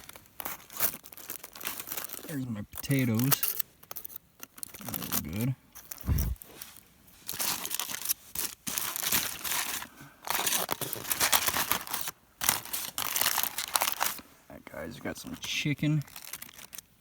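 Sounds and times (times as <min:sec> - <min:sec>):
aluminium foil crinkling and tearing: 0:00.0 - 0:14.2, 0:15.1 - 0:17.0.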